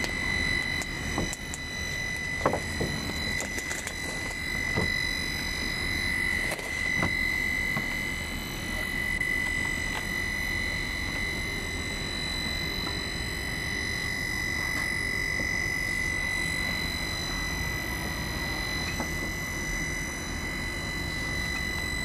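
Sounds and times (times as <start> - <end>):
welding machine whine: 0.0 - 22.0.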